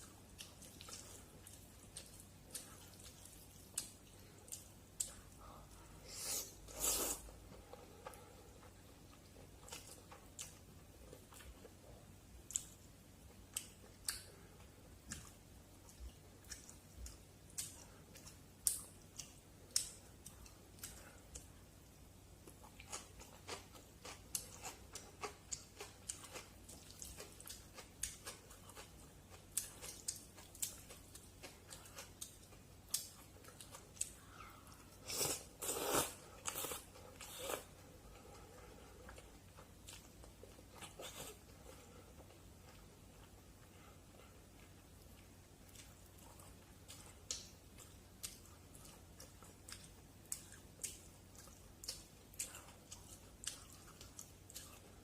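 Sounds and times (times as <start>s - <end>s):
person chewing noodles: 0.0s - 55.0s.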